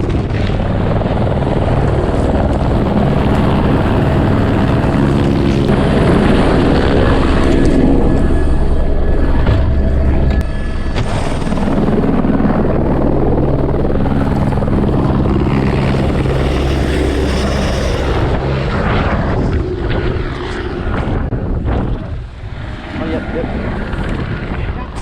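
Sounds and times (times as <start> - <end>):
helicopter rotor and engine drone: 0.0 - 25.0.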